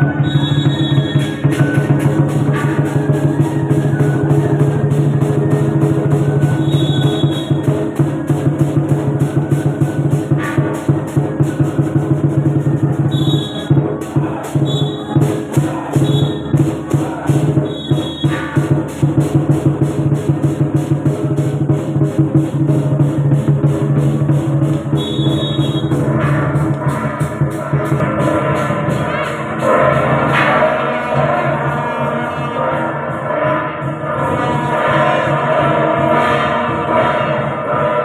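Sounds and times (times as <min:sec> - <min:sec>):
cymbals: 0:00.0 - 0:38.0
drums beating: 0:00.0 - 0:38.0.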